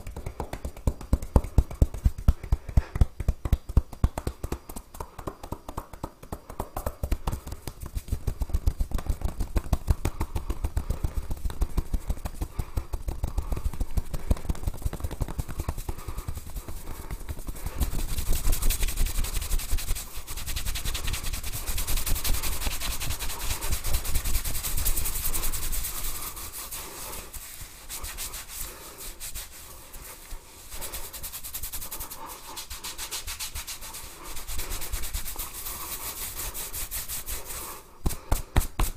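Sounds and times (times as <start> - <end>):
hands rubbing through hair: 0.0 - 38.9.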